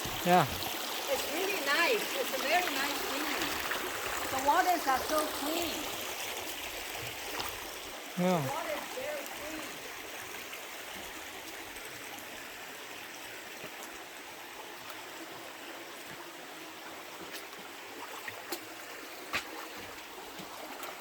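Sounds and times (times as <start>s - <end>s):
creek water over rocks: 0.0s - 21.0s.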